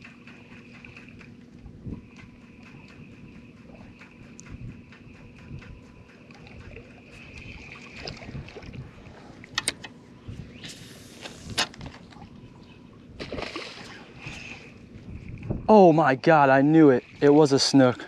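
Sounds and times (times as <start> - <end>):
water sloshing around boat: 0.0 - 18.0.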